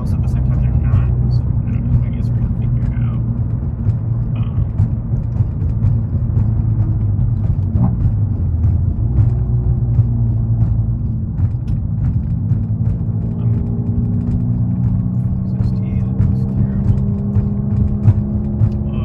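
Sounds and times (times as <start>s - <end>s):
loud car exhaust drone: 0.0s - 19.0s.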